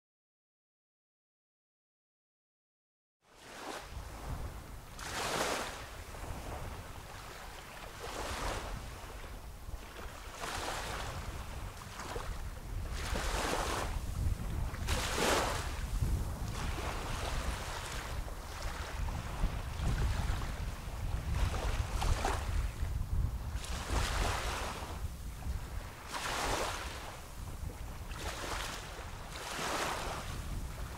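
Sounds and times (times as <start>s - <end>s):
waves washing up sandy beach: 3.4s - 30.9s.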